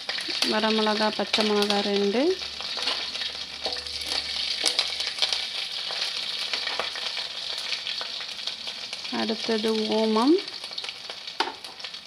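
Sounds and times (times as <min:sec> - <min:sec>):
leaves and chillies sizzling in oil: 0:00.0 - 0:12.0.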